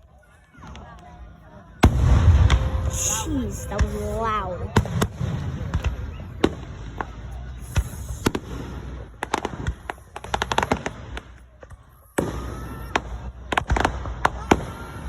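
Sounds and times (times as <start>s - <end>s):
fireworks bangs and crackling: 0.2s - 15.0s.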